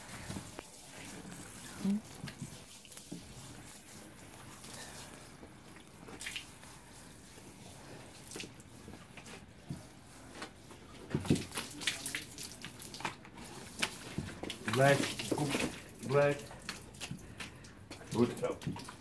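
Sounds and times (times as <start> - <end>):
faint water drips: 0.0 - 19.0.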